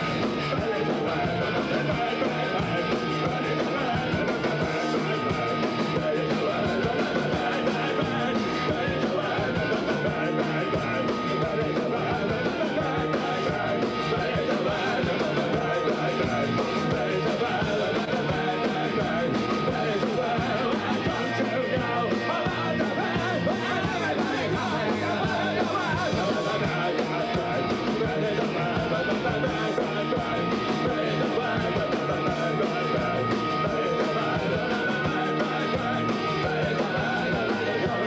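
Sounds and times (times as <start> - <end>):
live rock band playing: 0.0 - 38.0
person singing: 0.0 - 38.0.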